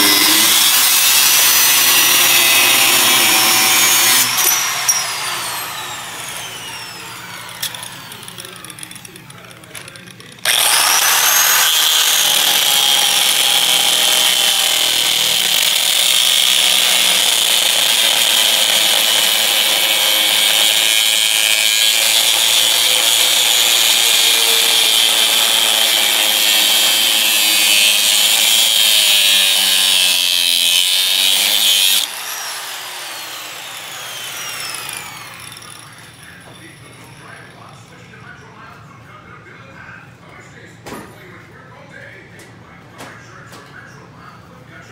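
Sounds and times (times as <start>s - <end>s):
grinder motor winding down: 0.0s - 9.3s, 10.4s - 37.5s
angle grinder grinding metal: 0.0s - 37.8s.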